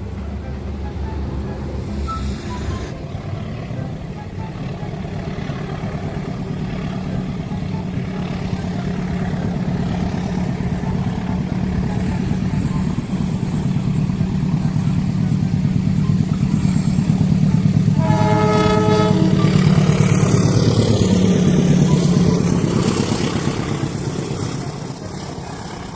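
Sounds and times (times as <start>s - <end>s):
locomotive horn: 0.0s - 25.8s
diesel locomotive engine running: 0.0s - 25.9s.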